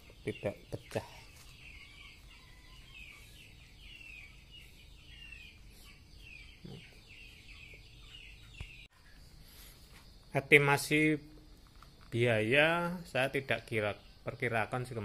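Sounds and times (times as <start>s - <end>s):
chickens chirping: 0.0s - 15.0s.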